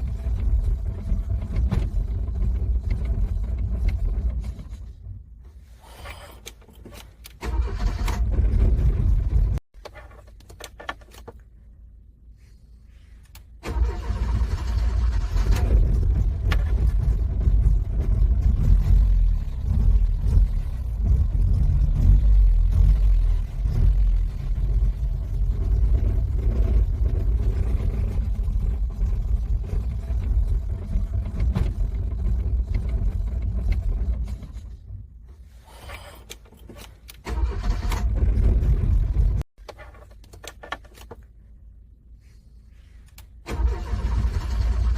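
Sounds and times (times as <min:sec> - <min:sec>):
car engine cranking: 0:00.0 - 0:11.4, 0:13.3 - 0:41.2, 0:43.2 - 0:44.9.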